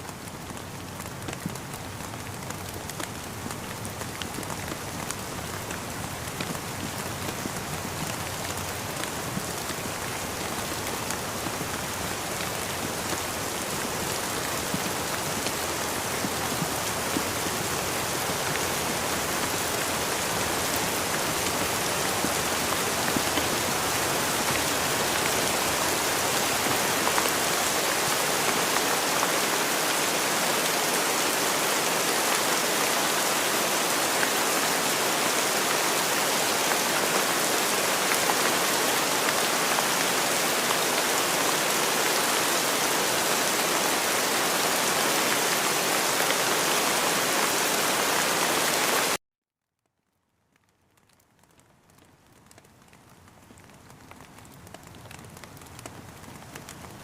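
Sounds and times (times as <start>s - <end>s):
rain falling: 0.0s - 49.2s, 50.3s - 57.0s.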